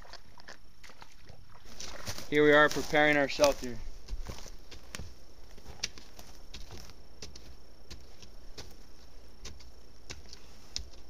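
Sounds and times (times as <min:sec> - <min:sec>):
shovel scraping gravelly dirt: 0:00.0 - 0:11.0.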